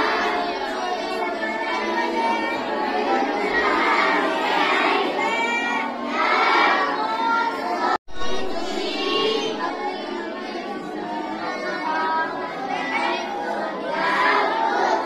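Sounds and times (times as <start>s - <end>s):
boys reciting aloud together: 0.0s - 15.0s.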